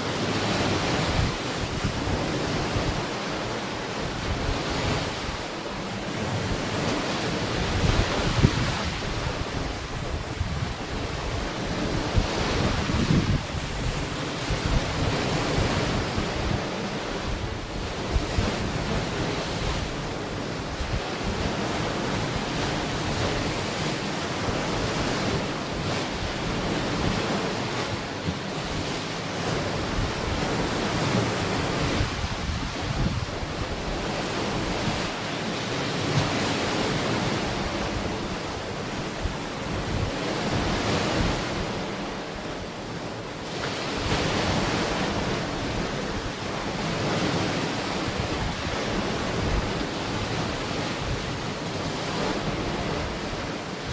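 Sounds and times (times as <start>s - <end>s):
ocean waves breaking on beach: 0.0s - 53.9s
wind rumbling on microphone: 0.0s - 53.9s.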